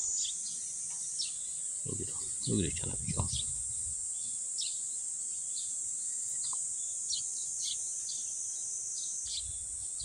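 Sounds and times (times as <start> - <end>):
insects droning: 0.0 - 10.0
small birds chirping: 0.0 - 10.0.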